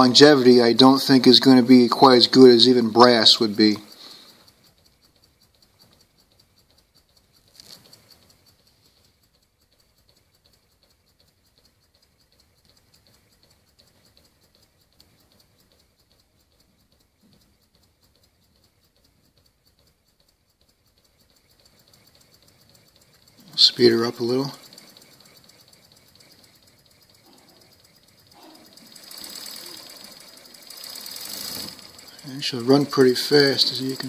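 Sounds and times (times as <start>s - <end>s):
small steam engine ticking and puffing: 0.0s - 34.0s.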